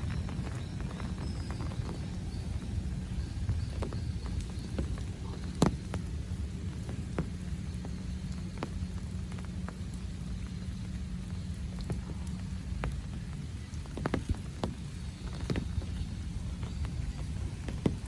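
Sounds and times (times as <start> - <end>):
drops tapping: 0.0 - 18.0
rain falling: 0.0 - 18.0.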